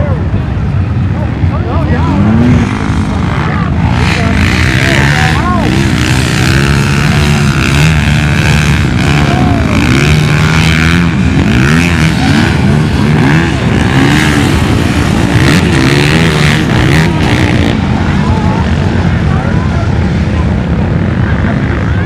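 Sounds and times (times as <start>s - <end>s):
low engine drone: 0.0s - 22.0s
vehicle engines revving: 0.0s - 22.0s.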